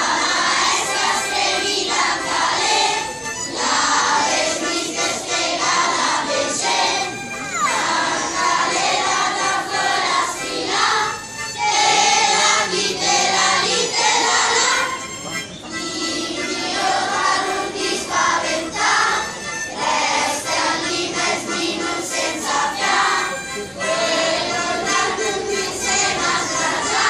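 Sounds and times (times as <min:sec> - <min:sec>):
children's choir singing: 0:00.0 - 0:27.0.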